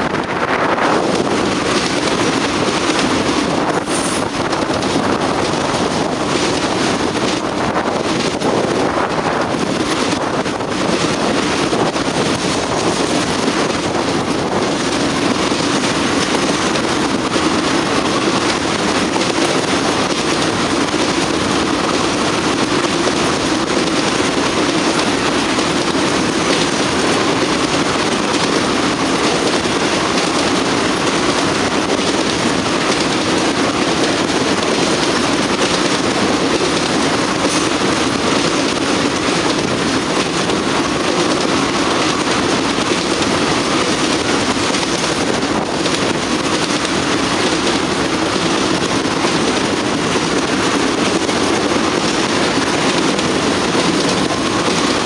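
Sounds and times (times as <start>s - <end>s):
steel wheels running on rail: 0.0s - 55.0s.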